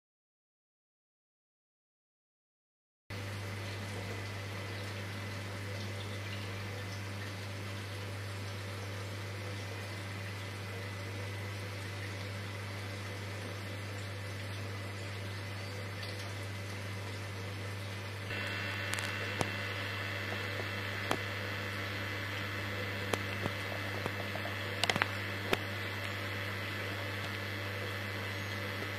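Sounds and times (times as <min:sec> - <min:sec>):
aquarium equipment hum: 0:03.1 - 0:28.9
aquarium pump water hiss: 0:03.2 - 0:28.9.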